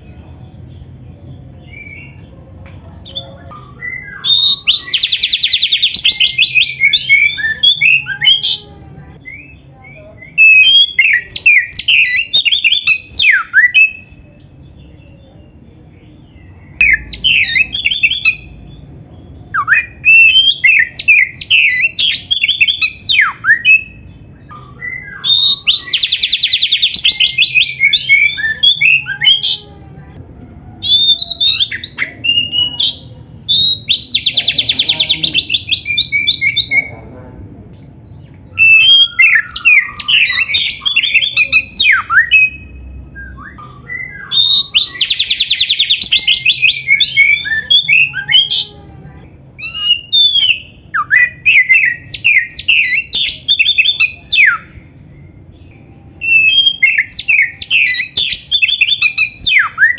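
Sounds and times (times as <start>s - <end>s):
songbird singing varied phrases: 0.0s - 30.2s, 30.8s - 37.1s, 37.8s - 59.9s.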